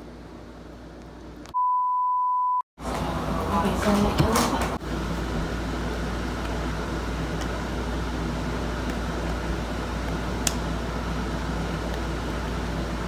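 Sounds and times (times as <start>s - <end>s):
steady mechanical hum: 0.0s - 1.5s, 2.8s - 13.0s.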